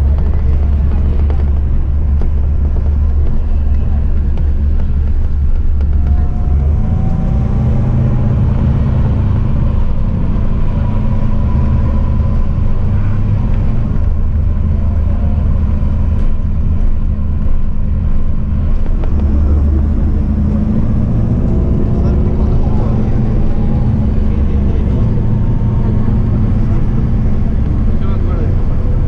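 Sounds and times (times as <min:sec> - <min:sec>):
low engine rumble: 0:00.0 - 0:29.0.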